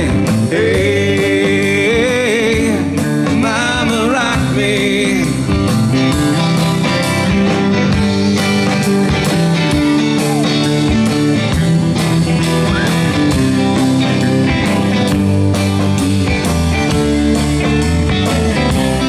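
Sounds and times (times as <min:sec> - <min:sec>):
bass: 0:00.0 - 0:19.0
electric guitars: 0:00.0 - 0:19.0
steady drum beat: 0:00.0 - 0:19.0.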